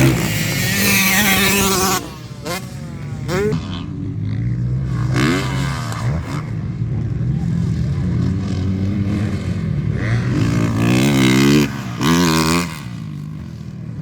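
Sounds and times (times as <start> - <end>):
motocross bike engine close: 0.0 - 14.0
motorbikes revving: 0.0 - 14.0.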